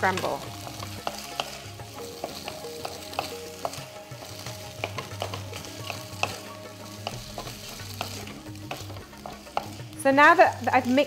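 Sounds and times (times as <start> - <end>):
food sizzling in pan: 0.0 - 11.0
wooden spoon knocking and scraping pan: 0.0 - 11.0.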